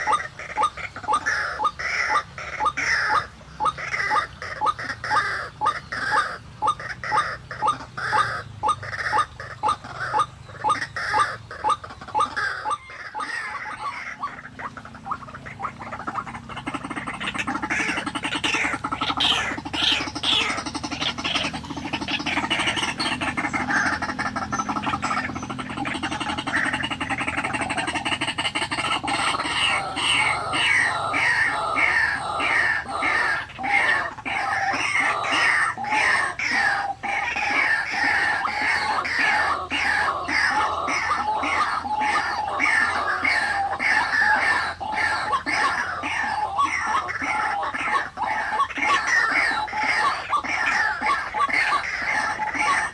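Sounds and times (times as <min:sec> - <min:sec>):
bird harsh croaking calls: 0:00.0 - 0:52.9.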